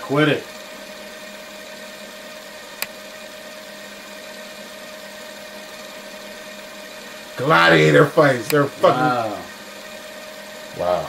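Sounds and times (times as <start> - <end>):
steady hum with held tone: 0.0 - 11.0.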